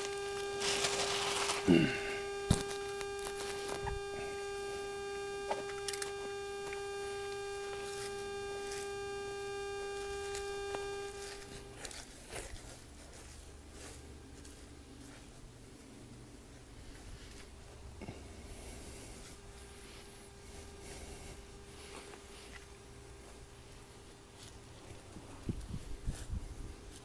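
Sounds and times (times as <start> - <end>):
steady pitched hum: 0.0 - 27.0.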